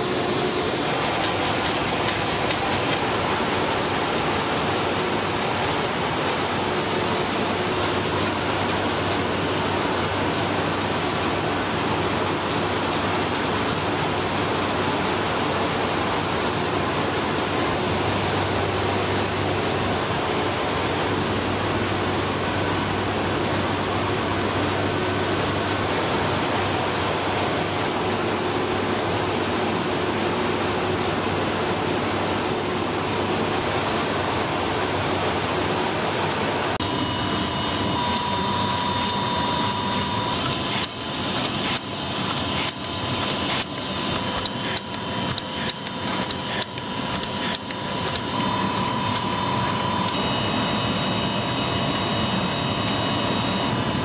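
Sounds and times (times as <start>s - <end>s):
printing press running: 0.0s - 33.6s, 36.5s - 54.0s.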